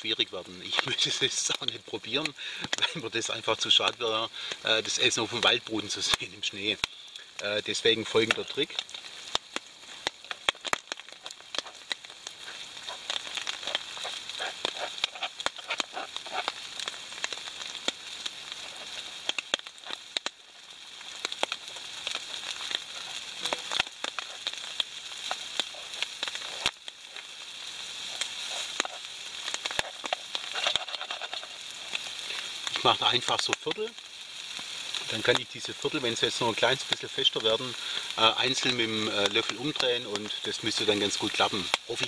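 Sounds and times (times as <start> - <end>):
crackles and clicks of frying: 0.0 - 42.0
pancake sizzling in a pan: 0.0 - 42.0.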